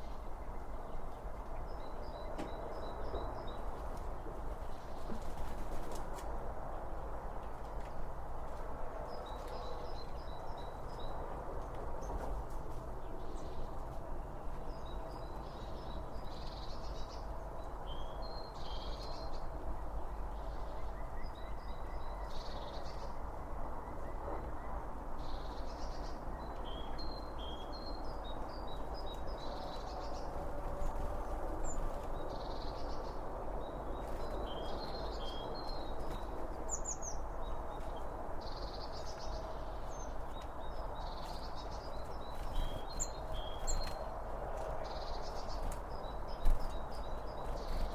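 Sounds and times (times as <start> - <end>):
small songbirds chirping: 0.0 - 6.3, 7.5 - 47.9.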